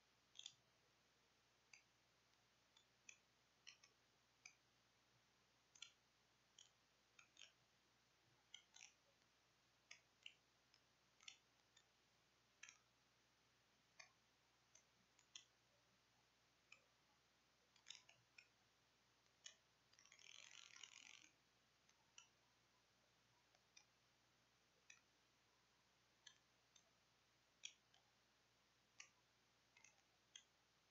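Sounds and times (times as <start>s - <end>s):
faint irregular clicks: 0.0s - 30.9s.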